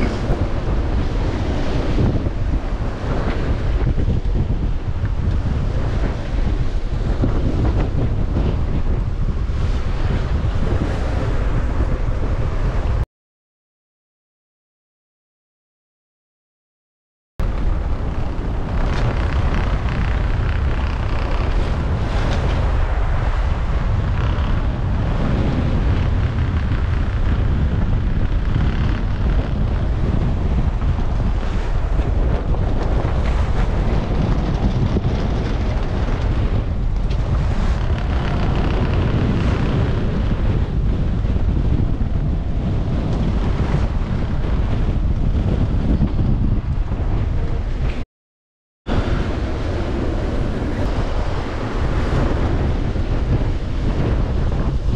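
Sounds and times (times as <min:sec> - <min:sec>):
waves rushing along hull: 0:00.0 - 0:13.0, 0:17.4 - 0:48.0, 0:48.9 - 0:54.9
wind buffeting microphone: 0:00.0 - 0:13.0, 0:17.4 - 0:48.0, 0:48.9 - 0:54.9.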